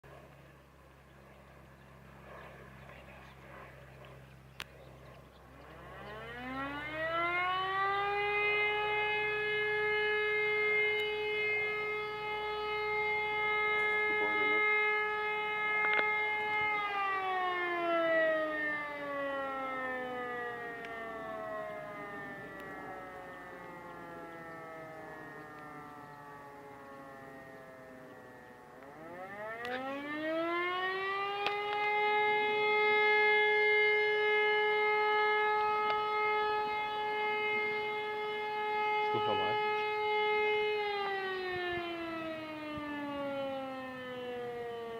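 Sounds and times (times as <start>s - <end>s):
electromechanical siren wailing: 3.4s - 44.9s.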